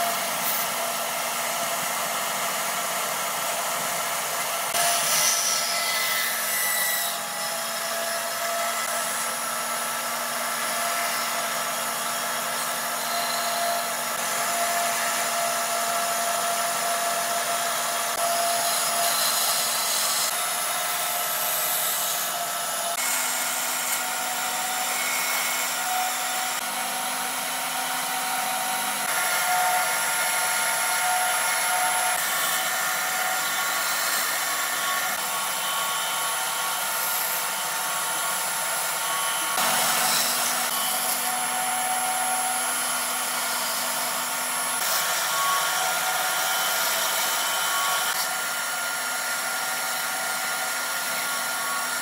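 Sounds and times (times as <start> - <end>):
band saw cutting wood: 0.0 - 52.0.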